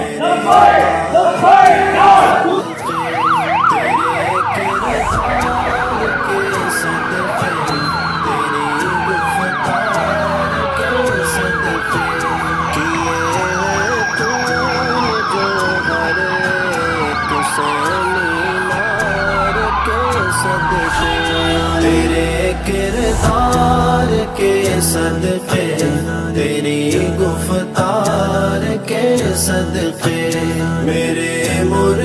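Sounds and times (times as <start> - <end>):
vehicle sirens wailing: 0.1 - 25.9.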